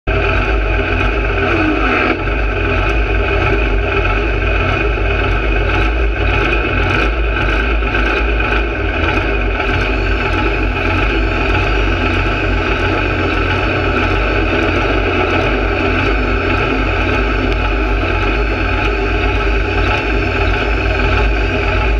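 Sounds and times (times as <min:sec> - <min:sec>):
tractor engine running: 0:00.0 - 0:21.9
short falling whine: 0:00.1 - 0:21.9.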